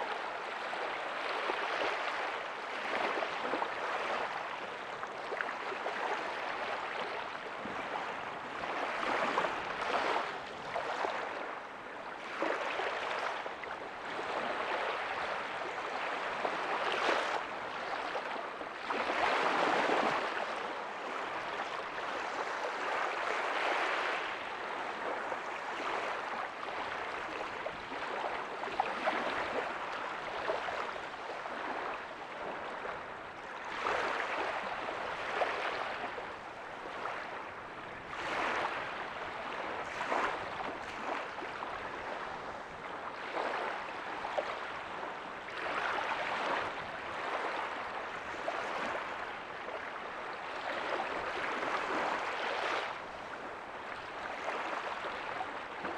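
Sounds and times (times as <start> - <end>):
small waves breaking on beach: 0.0 - 55.9.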